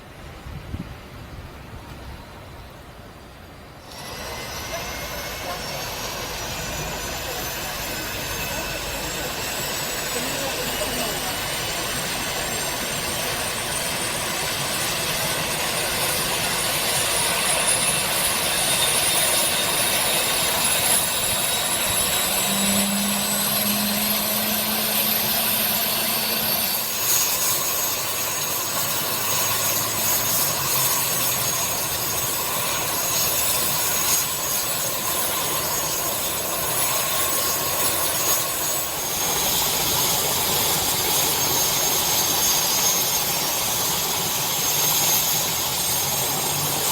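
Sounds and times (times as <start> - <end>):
helicopter turbine whine: 2.2 - 46.9.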